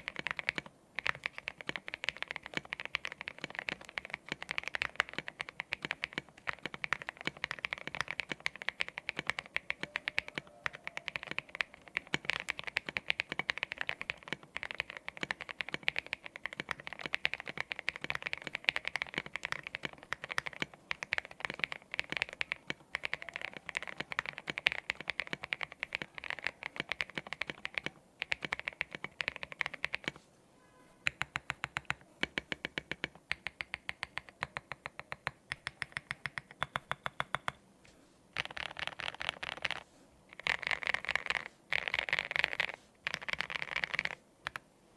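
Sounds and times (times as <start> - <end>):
mechanical keyboard typing: 0.0 - 30.2, 31.0 - 37.6, 38.4 - 44.6.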